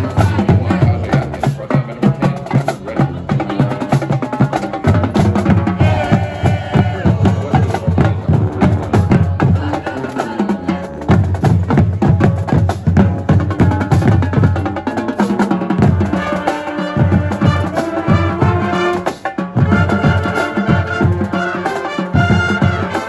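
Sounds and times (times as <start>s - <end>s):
drums beating fast: 0.0s - 23.0s
marching band playing: 0.0s - 23.0s.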